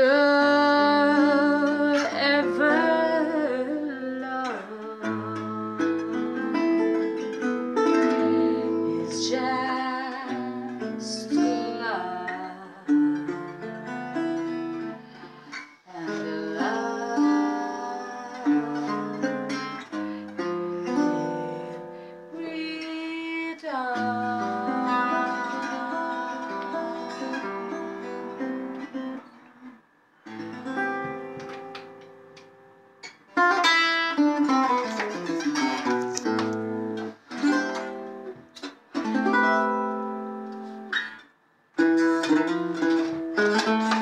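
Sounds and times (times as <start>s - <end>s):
acoustic guitar playing: 0.0s - 44.0s.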